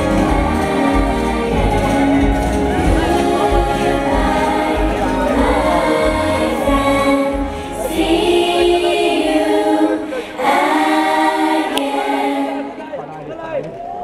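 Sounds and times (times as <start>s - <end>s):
pop backing track: 0.0s - 12.4s
women singing together amplified: 0.0s - 13.0s.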